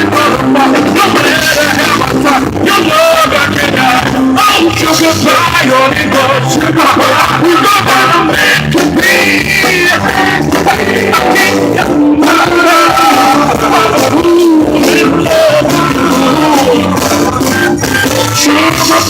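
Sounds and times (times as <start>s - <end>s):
singing over full band: 0.0s - 19.0s.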